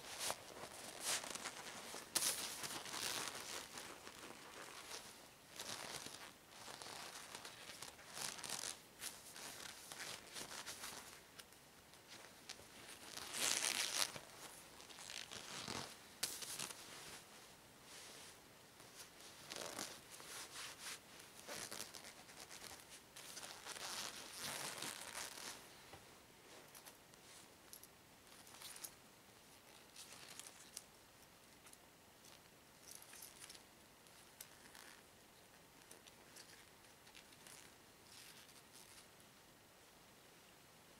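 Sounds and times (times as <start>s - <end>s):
rubber gloves rustling and stretching: 0.0s - 30.9s, 31.5s - 39.2s.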